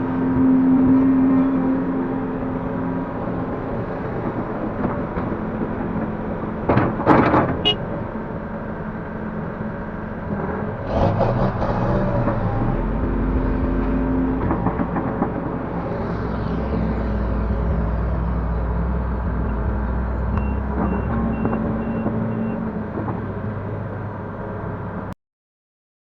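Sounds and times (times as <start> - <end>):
deep rumble: 0.0 - 24.6
excavator diesel engine running: 0.0 - 25.1.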